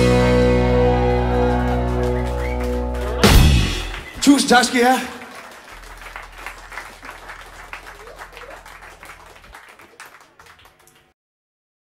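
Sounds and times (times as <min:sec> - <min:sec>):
audience applauding: 0:00.7 - 0:11.2.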